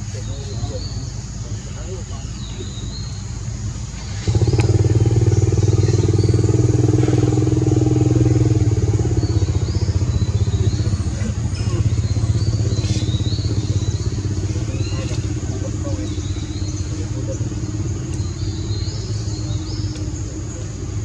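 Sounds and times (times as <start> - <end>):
engine running with low hum: 0.0 - 21.0.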